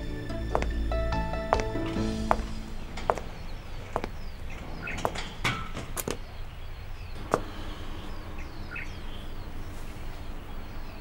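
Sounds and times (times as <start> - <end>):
small birds chirping: 0.0 - 11.0
steady low background: 0.0 - 11.0.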